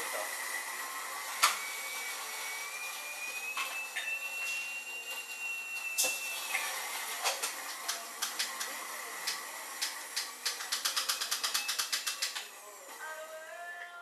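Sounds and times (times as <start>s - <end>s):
coffee grinder whining: 0.0s - 13.8s.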